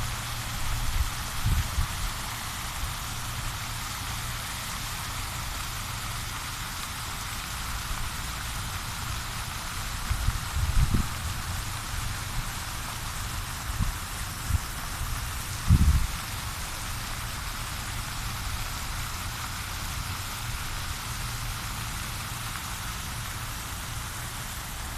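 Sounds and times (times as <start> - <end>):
water falling and splashing: 0.0 - 24.9.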